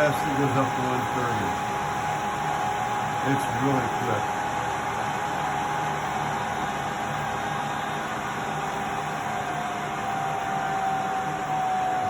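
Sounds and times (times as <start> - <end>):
blower whine: 0.0 - 12.0.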